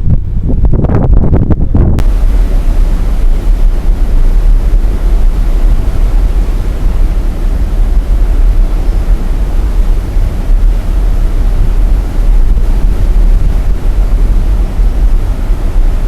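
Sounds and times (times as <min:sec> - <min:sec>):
wind buffeting microphone: 0:00.0 - 0:16.0
steady rushing hiss: 0:01.6 - 0:16.0.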